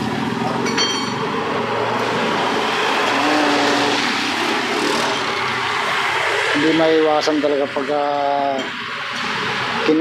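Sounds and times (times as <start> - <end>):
vehicle passing: 1.2 - 10.0.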